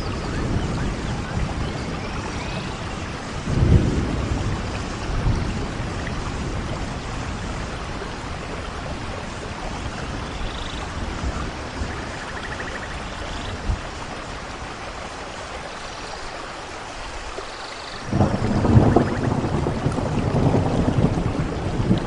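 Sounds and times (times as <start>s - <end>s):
low thunder rumble: 0.0s - 14.7s, 18.0s - 22.0s
heavy rain hissing: 0.0s - 22.0s.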